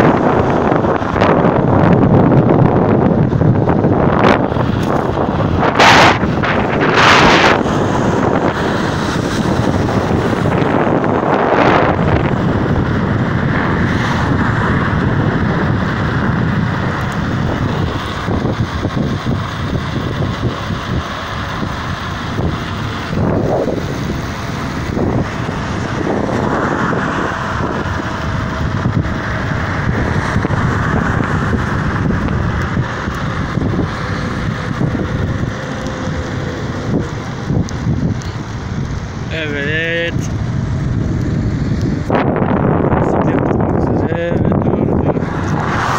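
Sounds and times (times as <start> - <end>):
road traffic passing: 0.0 - 45.9
wind buffeting microphone: 0.0 - 45.9.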